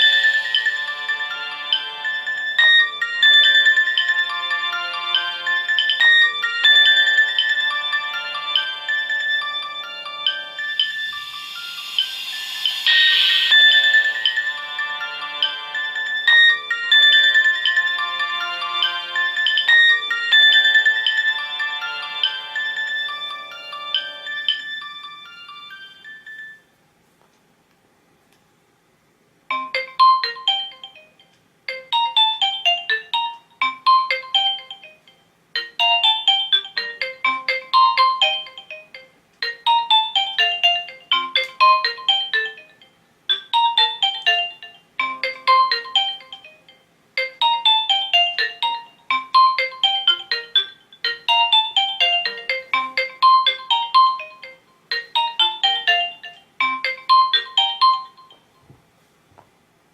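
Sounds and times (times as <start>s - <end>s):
electronic ringtone melody: 0.0s - 26.7s, 29.5s - 58.6s.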